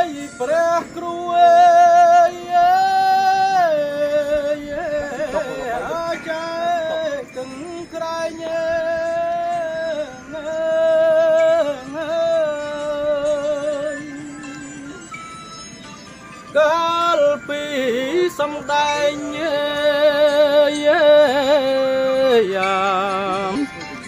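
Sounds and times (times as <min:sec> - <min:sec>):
melody in long wavering notes: 0:00.0 - 0:24.0.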